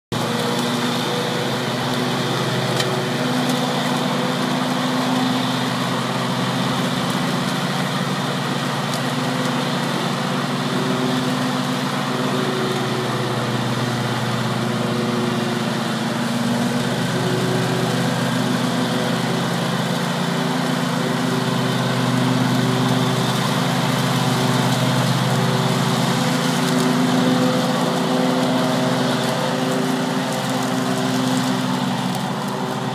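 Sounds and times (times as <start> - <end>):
lawn tractor engine running: 0.1 - 32.9.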